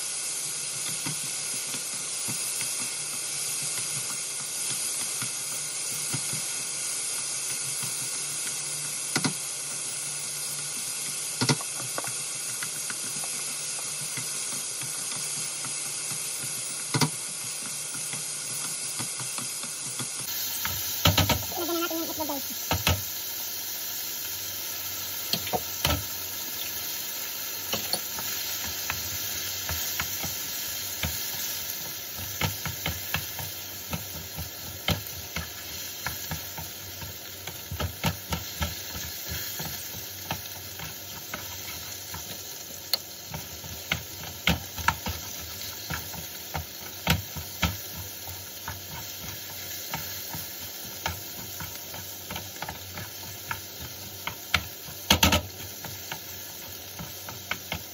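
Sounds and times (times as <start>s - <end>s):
vegetables sizzling in a pan: 0.0s - 57.9s.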